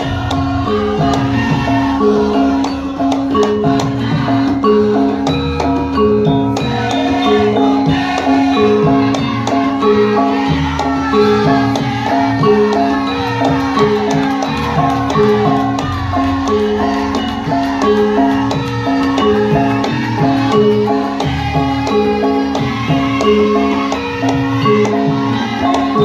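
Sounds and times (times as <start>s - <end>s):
drum strokes: 0.0s - 26.0s
metallophones ringing: 0.0s - 26.0s.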